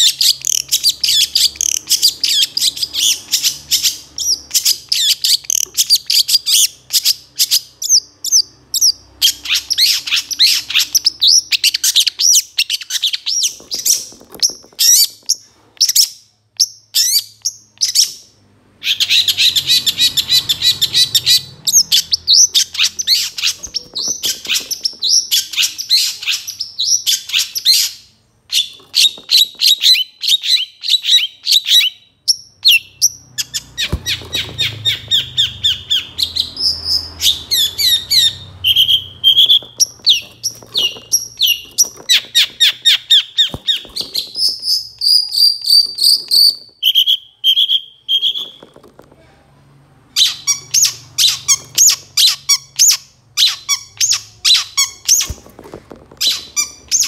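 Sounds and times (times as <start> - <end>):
bird singing rapid chirps: 0.0 - 48.7.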